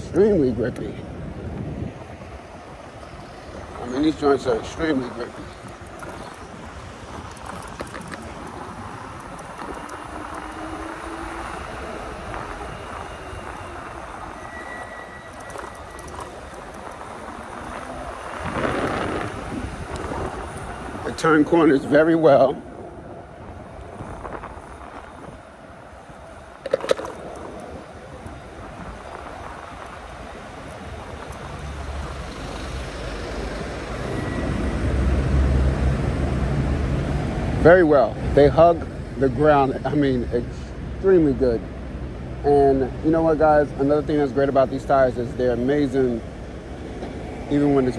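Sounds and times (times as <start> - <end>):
bike tire road noise: 0.0 - 47.9
wind noise: 0.0 - 47.9.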